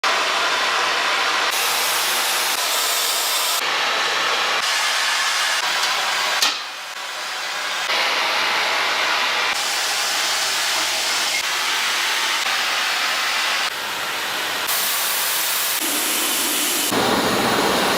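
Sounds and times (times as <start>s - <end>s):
industrial machinery hissing: 0.1s - 17.9s.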